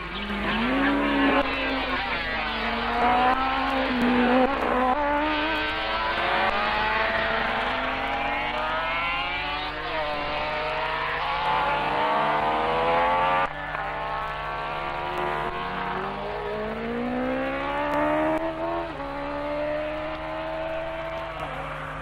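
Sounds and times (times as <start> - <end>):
racing engines at full throttle: 0.0 - 22.0.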